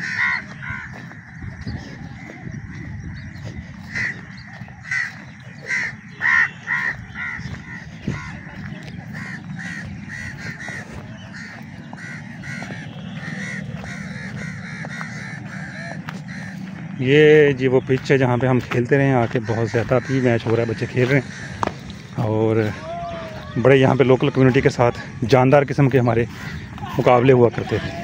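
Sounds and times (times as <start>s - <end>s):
low background rumble: 0.0s - 23.6s
crows cawing: 0.0s - 28.0s.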